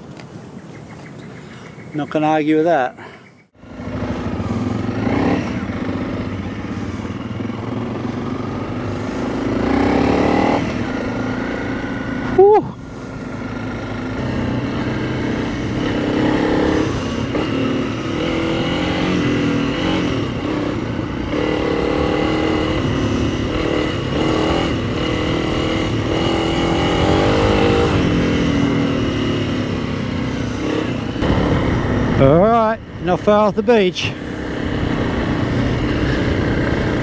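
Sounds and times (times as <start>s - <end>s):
wind and road noise: 0.0s - 37.0s
motorcycle engine revving: 3.5s - 37.0s.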